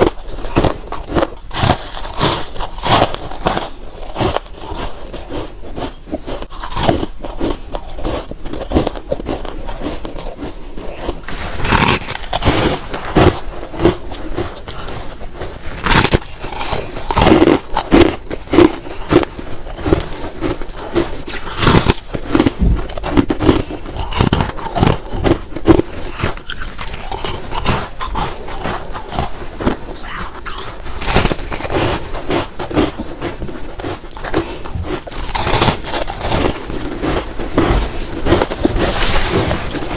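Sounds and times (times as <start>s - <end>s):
frost being chewed crunchily: 0.0s - 39.9s.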